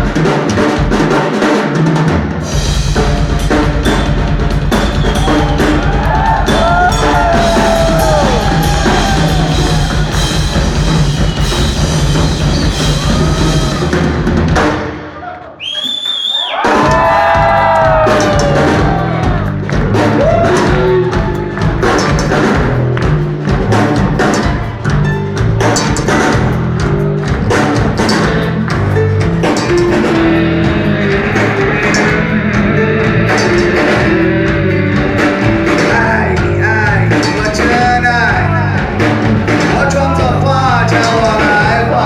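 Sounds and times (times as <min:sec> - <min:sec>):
shawm playing melody: 0:00.0 - 0:15.0, 0:16.9 - 0:42.0
rhythmic drumming: 0:00.0 - 0:15.1, 0:16.6 - 0:42.0.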